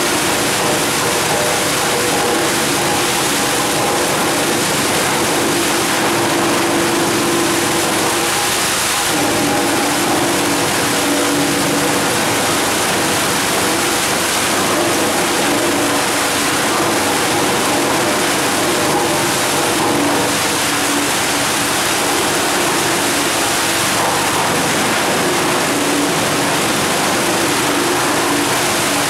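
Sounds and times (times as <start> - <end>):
wood chipper hum: 0.0 - 28.9.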